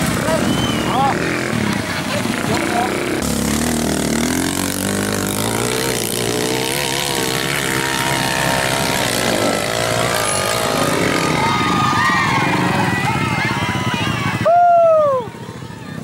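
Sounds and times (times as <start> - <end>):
dirt bike engine revving: 0.0 - 14.5.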